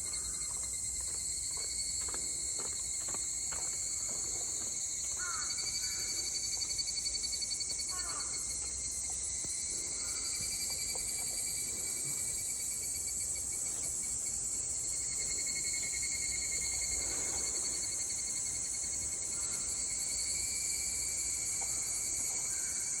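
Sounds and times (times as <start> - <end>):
cicadas shrilling: 0.0 - 23.0.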